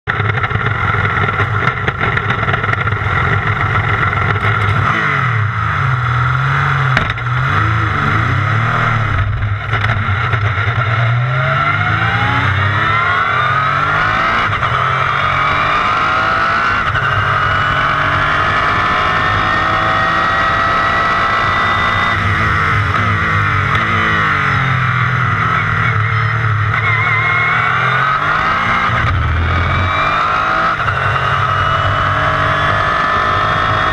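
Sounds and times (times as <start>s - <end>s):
race car engine accelerating: 0.1s - 33.9s.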